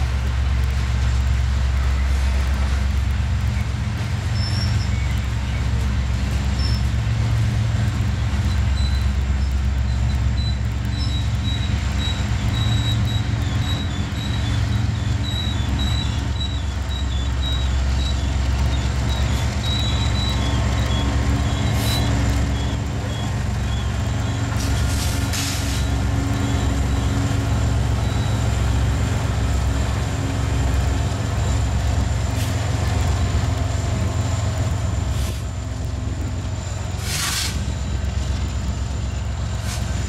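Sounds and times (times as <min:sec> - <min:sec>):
low engine tones: 0:00.0 - 0:40.0
train wheels rumbling on rail: 0:00.0 - 0:40.0.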